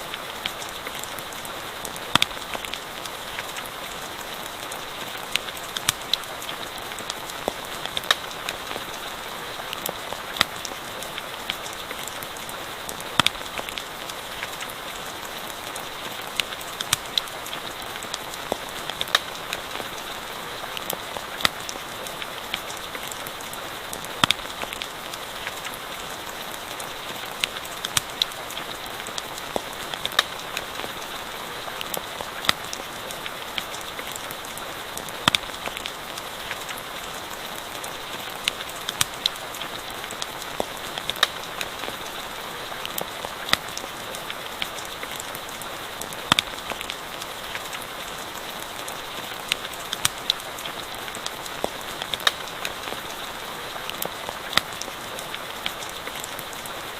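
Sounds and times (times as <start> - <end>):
campfire popping and crackling: 0.0 - 56.9
steady rain: 0.0 - 56.9.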